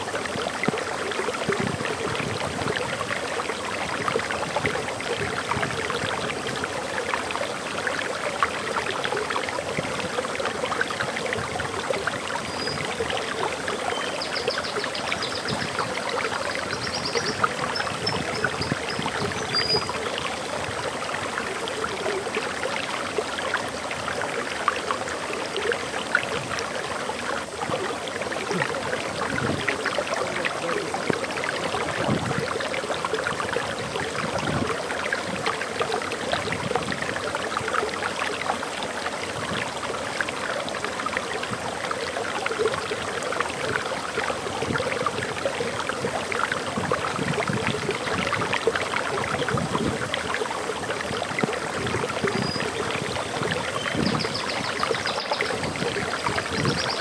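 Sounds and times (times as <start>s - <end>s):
water splashing over waterfall: 0.0s - 57.0s.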